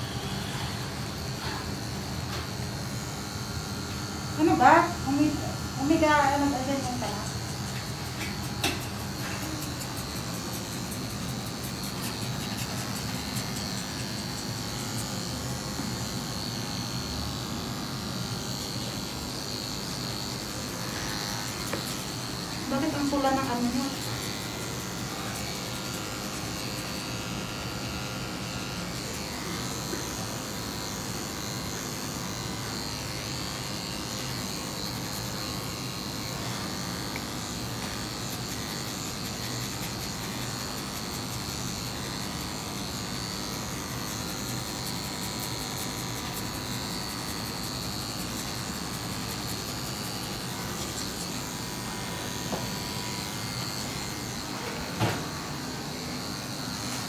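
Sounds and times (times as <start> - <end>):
electric clipper buzzing: 0.0 - 57.0.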